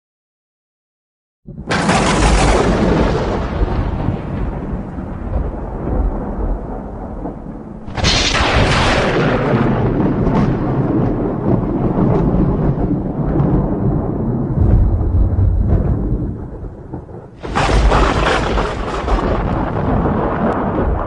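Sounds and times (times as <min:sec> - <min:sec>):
sharp thunder crack: 0:01.5 - 0:21.0
thunder crashing and rumbling: 0:01.5 - 0:21.0.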